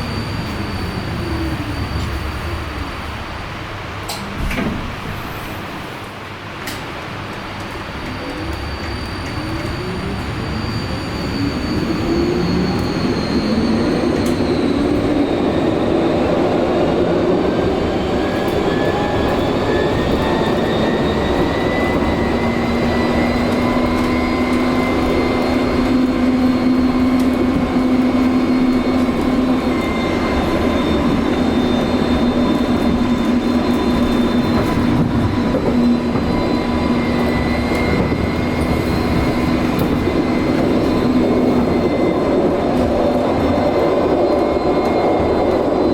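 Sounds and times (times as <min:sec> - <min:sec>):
wheels rumbling on rail: 0:00.0 - 0:45.9
tram traction drive whining: 0:07.6 - 0:45.9.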